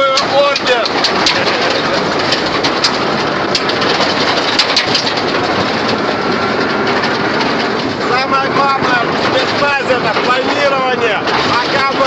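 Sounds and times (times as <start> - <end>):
loose metal rattling: 0.0 - 12.0
truck engine and road noise: 0.0 - 12.0.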